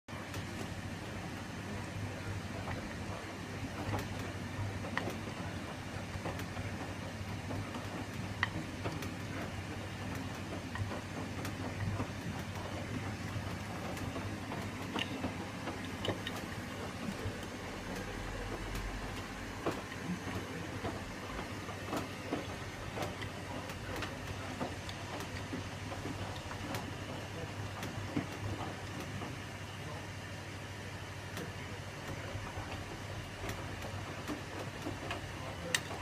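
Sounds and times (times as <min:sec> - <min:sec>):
washing machine humming: 0:00.1 - 0:36.0.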